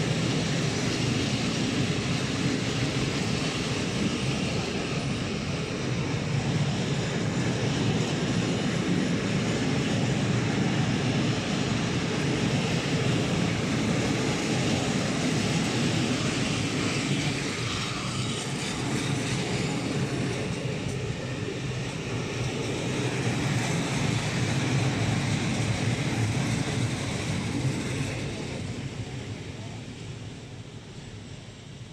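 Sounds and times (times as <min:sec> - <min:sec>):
freight train wheels rumbling on rails: 0:00.0 - 0:29.7.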